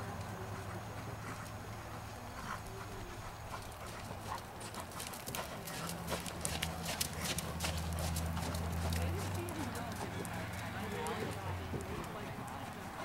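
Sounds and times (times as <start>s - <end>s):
hooves on sand: 0.2s - 13.0s.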